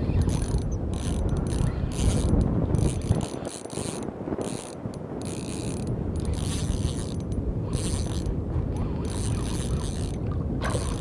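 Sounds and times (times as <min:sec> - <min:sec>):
fishing reel gears whirring: 0:00.0 - 0:11.0
wind rumble on microphone: 0:00.0 - 0:11.0.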